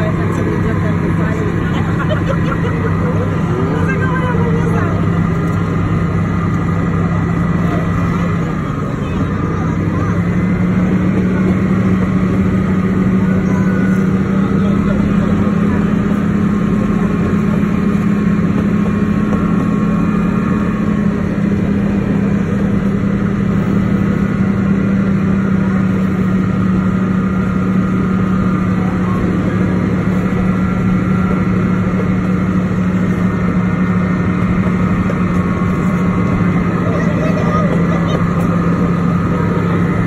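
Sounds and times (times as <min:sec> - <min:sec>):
train engine drone: 0:00.0 - 0:40.0
train running along track: 0:00.0 - 0:40.0.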